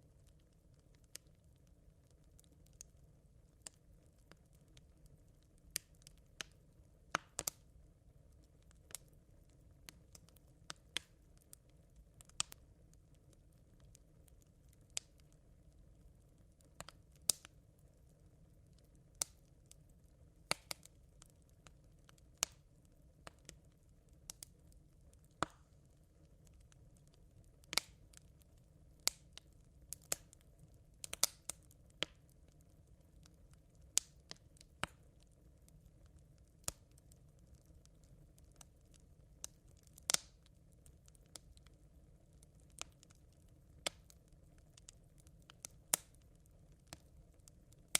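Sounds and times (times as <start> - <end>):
campfire embers popping: 0.0 - 47.9
faint low rumble: 0.0 - 47.9.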